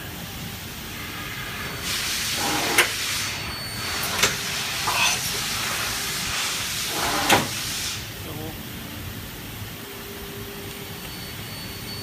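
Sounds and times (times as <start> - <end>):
machining center hissing: 0.7 - 10.5.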